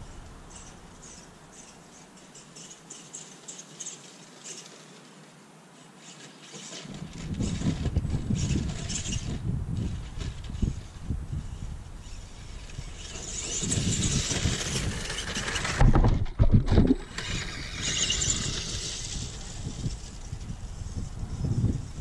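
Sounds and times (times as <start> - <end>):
toy truck motor whine: 0.0 - 5.0, 5.8 - 15.9, 17.1 - 22.0.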